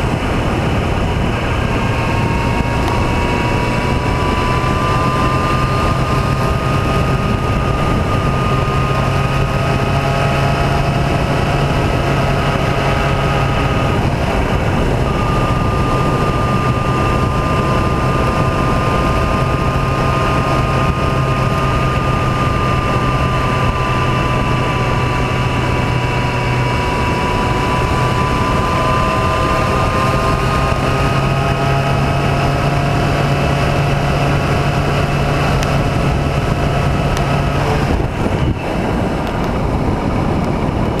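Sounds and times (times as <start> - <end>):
vehicle engine running: 0.0 - 41.0
wind rush on microphone: 0.0 - 41.0.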